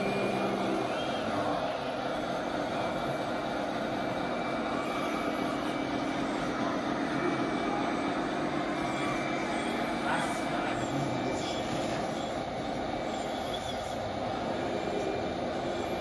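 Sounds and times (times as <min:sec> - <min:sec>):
electric motors whirring: 0:00.0 - 0:16.0.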